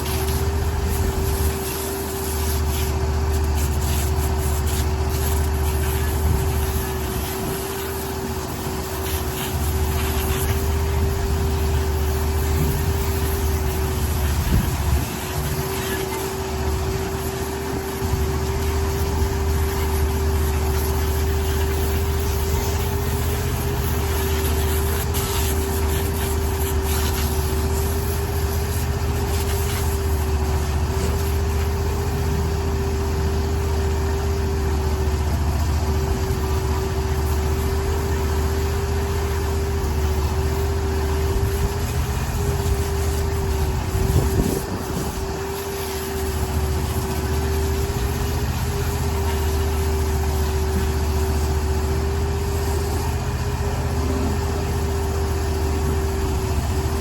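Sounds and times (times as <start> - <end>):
engine low rumble and hum: 0.0 - 57.0.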